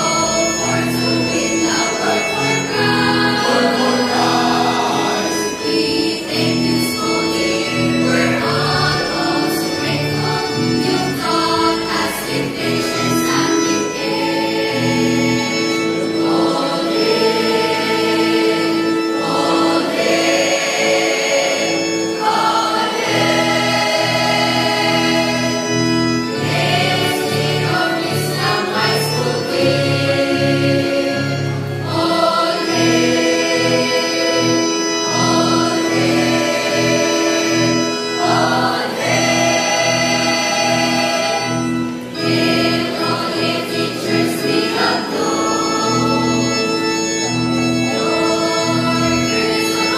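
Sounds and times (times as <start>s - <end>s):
mixed choir singing: 0.0s - 49.9s.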